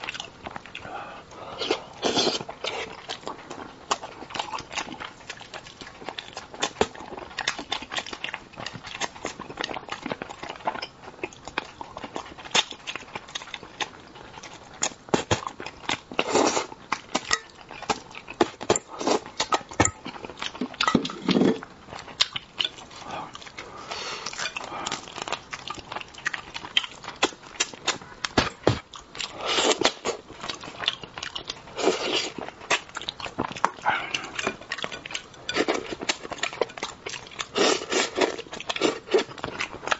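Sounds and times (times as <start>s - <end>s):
wet chewing and lip-smacking: 0.0s - 21.0s, 21.6s - 39.9s.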